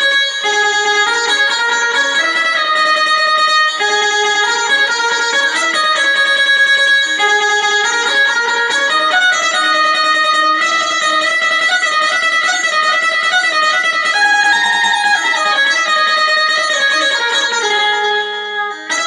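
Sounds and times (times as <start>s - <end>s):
plucked zither melody: 0.0s - 19.0s.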